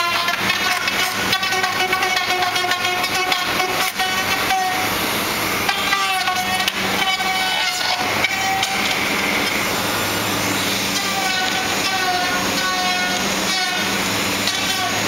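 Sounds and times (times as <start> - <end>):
low factory hum: 0.0 - 15.0
power router whining: 1.2 - 15.0.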